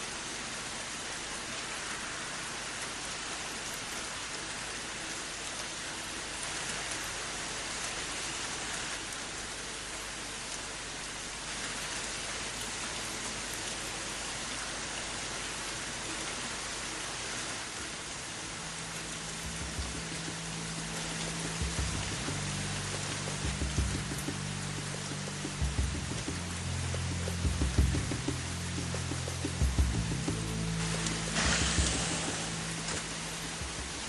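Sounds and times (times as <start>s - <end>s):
rain on hard surfaces: 0.0s - 34.0s.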